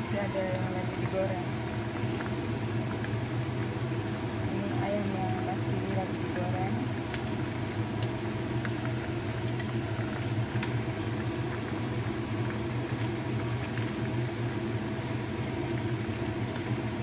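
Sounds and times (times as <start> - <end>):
oil sizzling and bubbling: 0.0 - 17.0.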